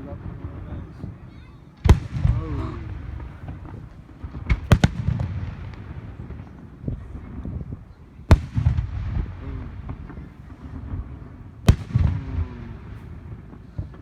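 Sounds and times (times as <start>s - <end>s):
distant firework rumble: 0.0s - 14.0s.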